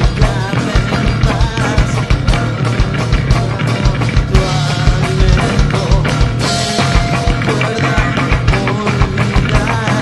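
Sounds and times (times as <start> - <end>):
grunge band playing: 0.0 - 10.0.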